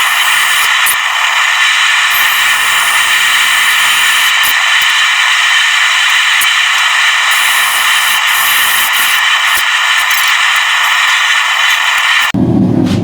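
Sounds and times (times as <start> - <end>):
machine hissing whir: 0.0 - 12.4.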